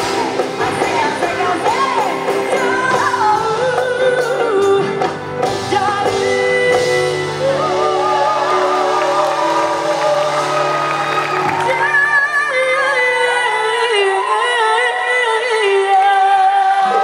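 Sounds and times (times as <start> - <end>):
band accompaniment: 0.0 - 16.8
woman singing into microphone: 0.0 - 17.0.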